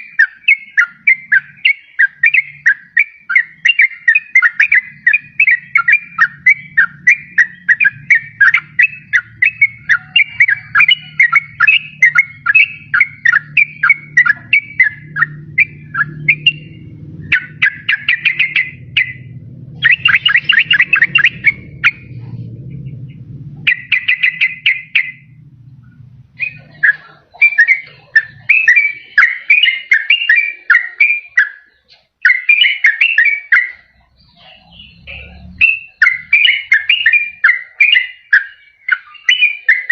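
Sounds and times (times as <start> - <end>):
faint low hum: 0.0 - 32.9, 33.6 - 37.8
bulbul singing: 0.0 - 39.9.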